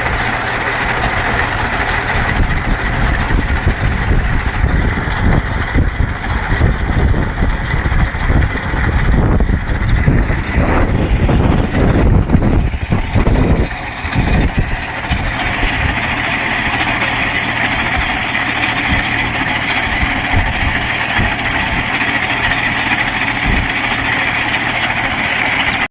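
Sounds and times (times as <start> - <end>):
machine engine rumbling: 0.0 - 25.9.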